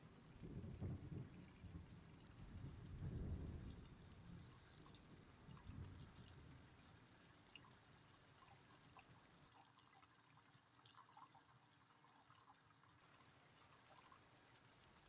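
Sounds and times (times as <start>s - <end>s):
light rain hiss: 0.0s - 15.0s
small drips: 0.1s - 15.0s.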